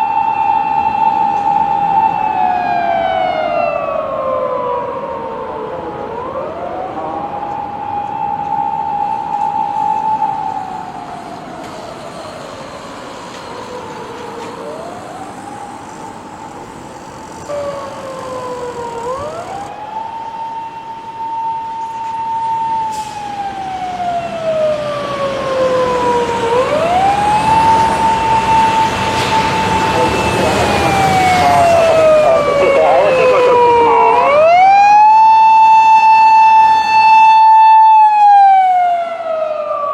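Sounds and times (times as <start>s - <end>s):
police car siren wailing: 0.0s - 39.9s
second siren wailing: 0.0s - 39.9s.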